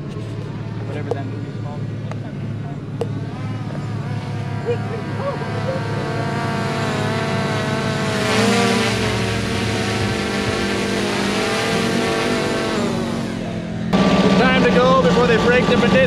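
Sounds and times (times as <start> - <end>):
dune buggy engine revving: 0.0 - 16.0.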